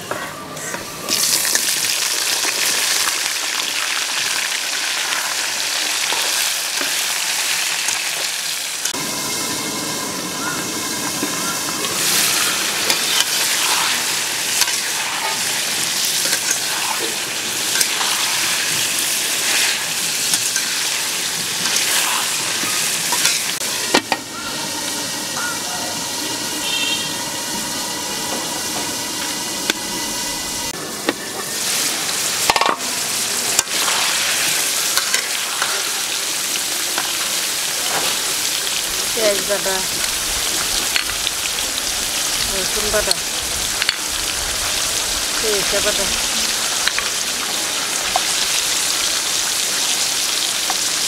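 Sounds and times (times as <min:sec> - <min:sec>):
vegetables sizzling in oil: 0:00.5 - 0:51.0.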